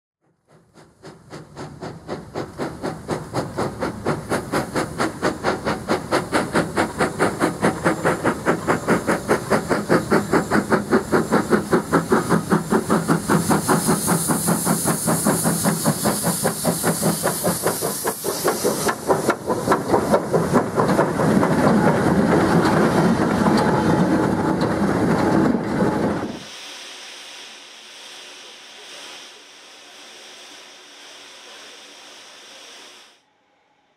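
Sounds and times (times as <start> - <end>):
steam locomotive exhaust beat: 0.2 - 33.1
steam hissing from cylinders: 0.8 - 33.2.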